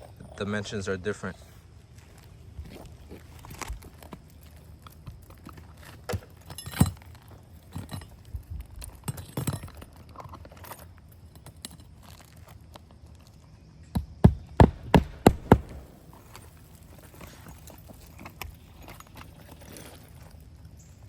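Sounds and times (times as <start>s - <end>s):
roofing work clinks and scrapes: 0.0s - 12.6s, 15.2s - 21.0s.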